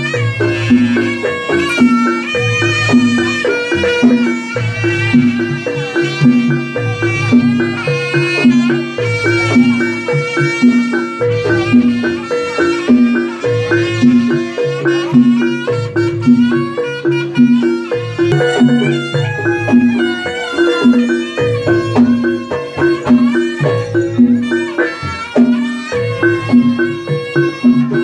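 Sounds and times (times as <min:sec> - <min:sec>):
low drum: 0:00.0 - 0:28.0
reedy shawm melody: 0:00.0 - 0:28.0.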